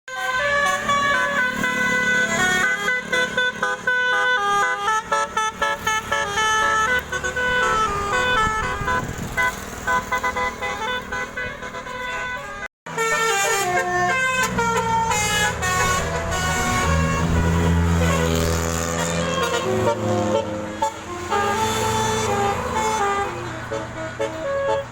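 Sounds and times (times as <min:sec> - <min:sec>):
multi-tone vehicle horn melody: 0:00.1 - 0:24.9.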